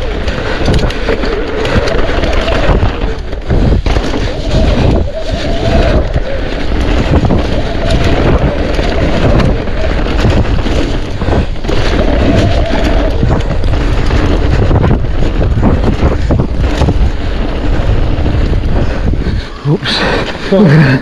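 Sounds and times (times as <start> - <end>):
bike rattling and knocking: 0.0 - 21.0
bike tyres rumbling on trail: 0.0 - 21.0
wind buffeting microphone: 0.0 - 21.0.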